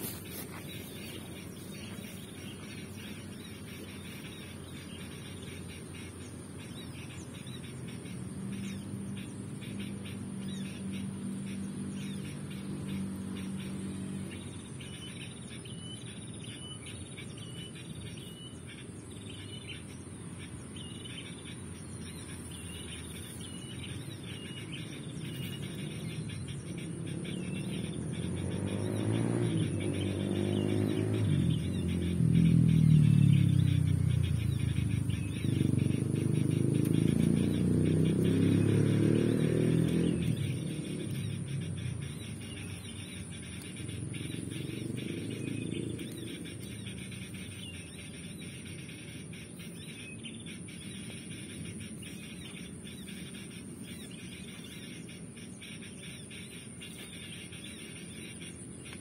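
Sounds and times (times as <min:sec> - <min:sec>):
low engine sound: 0:00.0 - 0:59.0
low outdoor rumble: 0:00.0 - 0:59.0
small birds chirping: 0:00.0 - 0:59.0.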